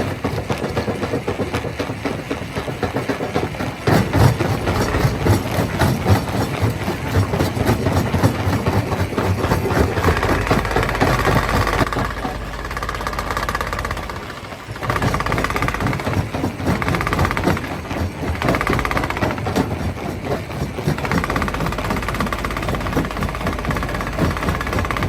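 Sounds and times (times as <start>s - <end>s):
stone crusher running: 0.0s - 25.0s.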